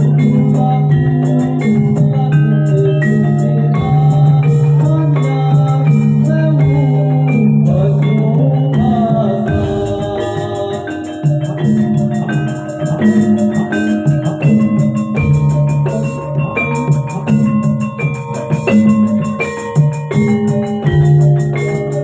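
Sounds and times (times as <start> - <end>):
metallophones and gongs ringing: 0.0 - 22.0
person singing: 0.0 - 22.0.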